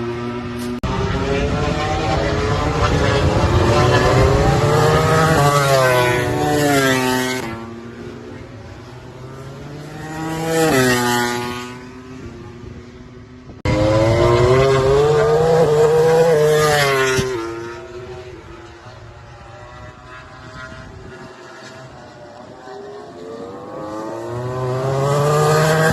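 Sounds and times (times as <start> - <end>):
race motorcycle engines: 0.0 - 25.9.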